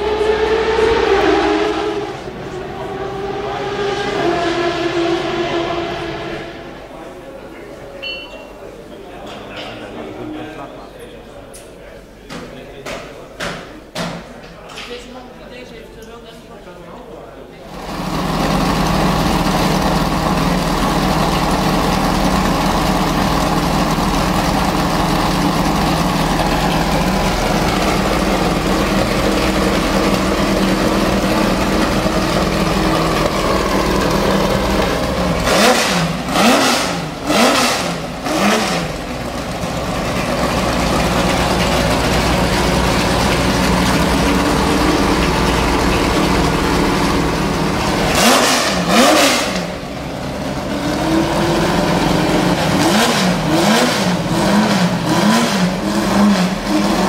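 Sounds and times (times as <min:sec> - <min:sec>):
car engine idling and revving: 0:00.0 - 0:07.8, 0:17.7 - 0:57.0.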